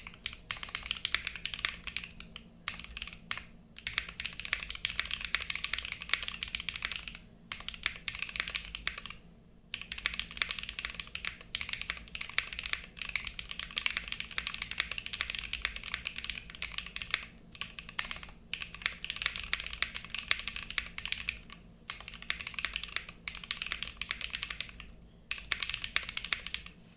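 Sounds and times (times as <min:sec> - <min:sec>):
mechanical keyboard typing: 0:00.0 - 0:26.8.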